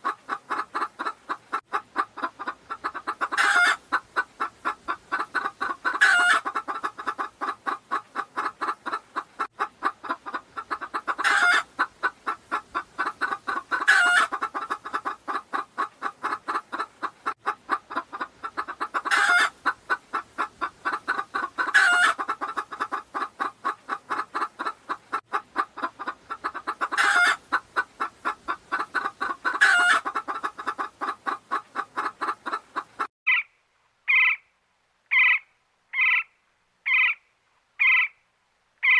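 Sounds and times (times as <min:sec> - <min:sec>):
chicken clucking: 0:00.0 - 0:33.1.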